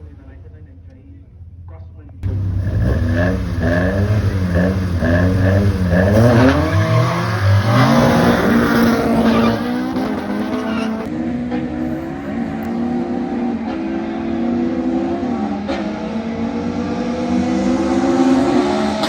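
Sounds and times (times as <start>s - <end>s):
racing car engine revving: 2.2s - 19.0s.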